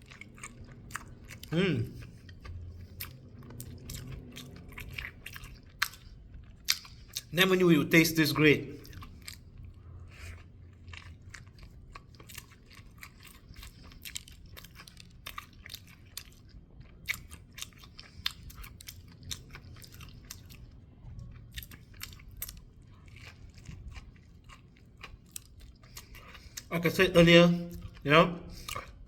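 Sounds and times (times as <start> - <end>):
person chewing crispy food: 0.0 - 29.0.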